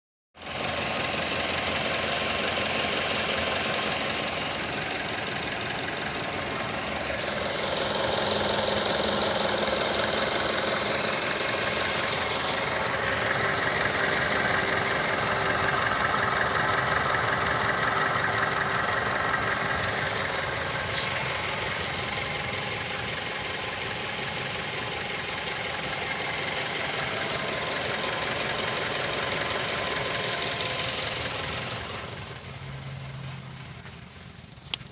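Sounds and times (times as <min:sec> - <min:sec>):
car engine running: 0:00.4 - 0:34.9.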